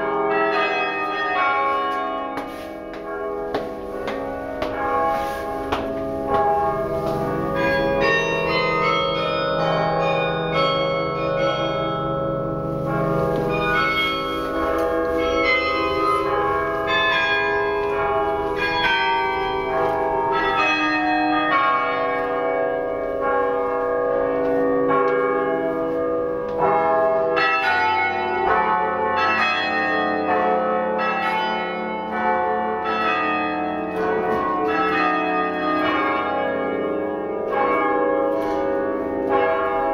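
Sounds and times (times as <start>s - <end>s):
carillon bells ringing: 0.0s - 39.9s
deep bass bell: 0.0s - 39.9s.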